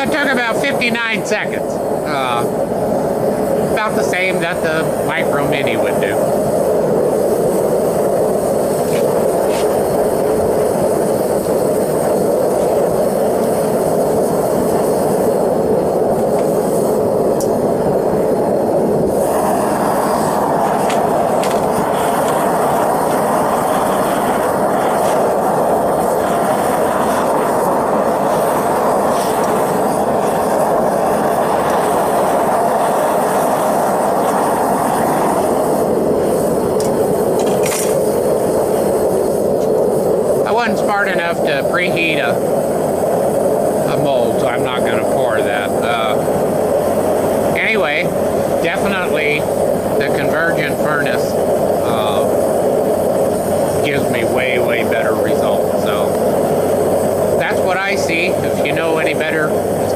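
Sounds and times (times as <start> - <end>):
propane torches roaring: 0.0 - 59.9.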